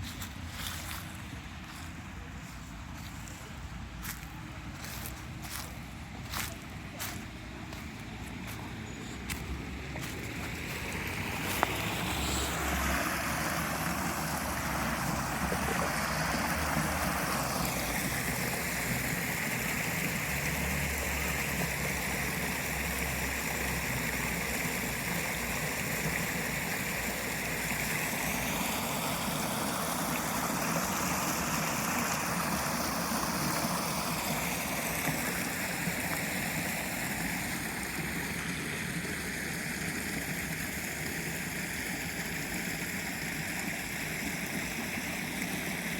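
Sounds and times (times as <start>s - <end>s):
water rushing in a stream: 0.0s - 45.9s.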